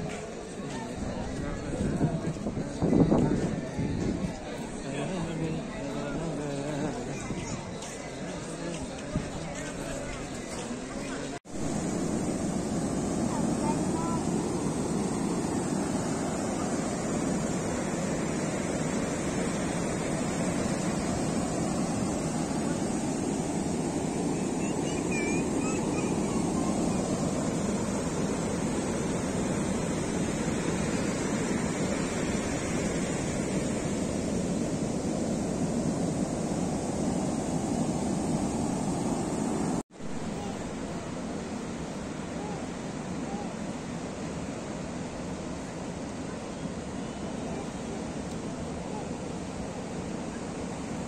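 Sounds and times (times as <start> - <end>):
surf breaking on beach: 8.4 - 51.0.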